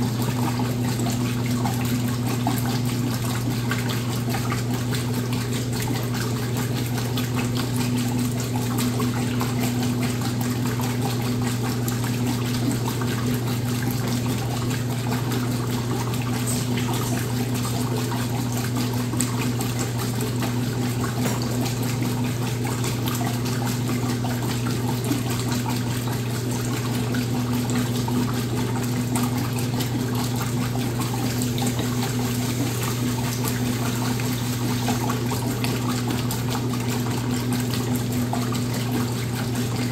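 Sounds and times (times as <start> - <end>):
water rushing in washing machine: 0.0 - 39.9.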